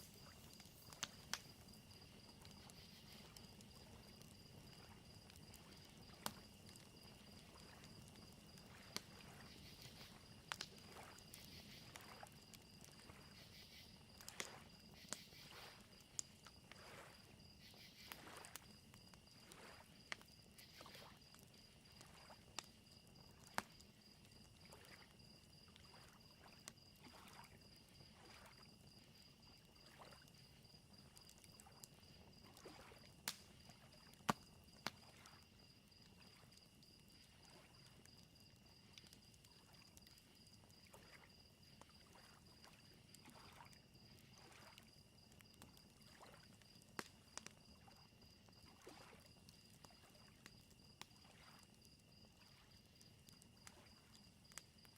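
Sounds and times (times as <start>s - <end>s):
campfire crackling: 0.0s - 54.9s
crickets chirping: 0.0s - 54.9s.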